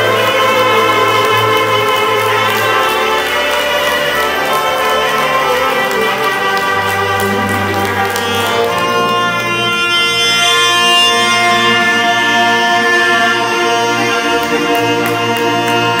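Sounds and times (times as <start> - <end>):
accordion: 0.0 - 16.0
reed instruments playing folk melody: 0.0 - 16.0.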